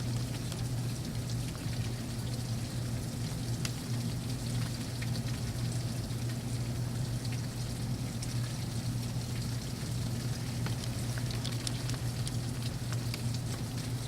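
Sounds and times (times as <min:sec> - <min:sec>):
rain drop ticks: 0:00.0 - 0:14.0.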